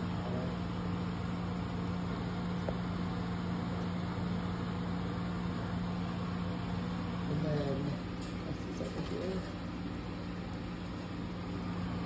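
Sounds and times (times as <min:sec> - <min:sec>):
appliance motor and fan humming: 0:00.0 - 0:12.0.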